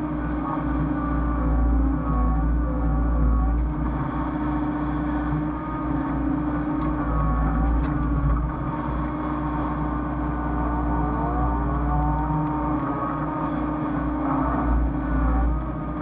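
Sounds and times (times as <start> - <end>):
excavator diesel engine running: 0.0 - 16.0
hydraulic whine: 0.0 - 16.0.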